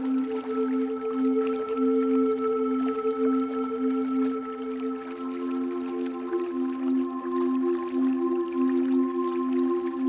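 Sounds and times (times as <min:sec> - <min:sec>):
calm new-age music: 0:00.0 - 0:10.0
faint water dripping: 0:00.0 - 0:10.0.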